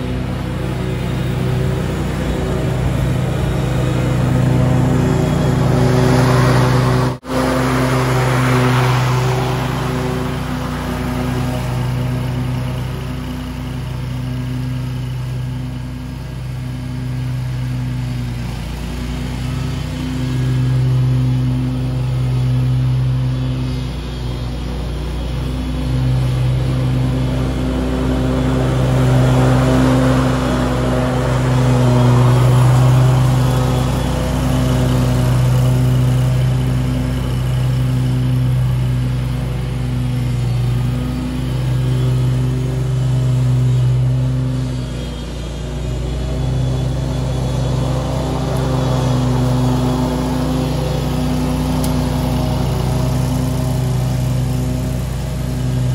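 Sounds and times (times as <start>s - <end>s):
lawn mower engine hum: 0.0s - 55.9s.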